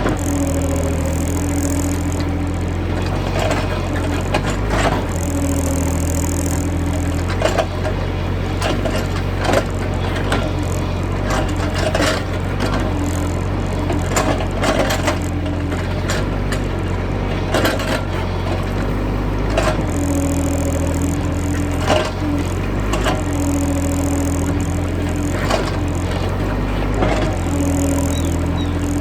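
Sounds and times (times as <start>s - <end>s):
excavator diesel engine: 0.0s - 29.0s
hydraulic whine: 0.0s - 29.0s.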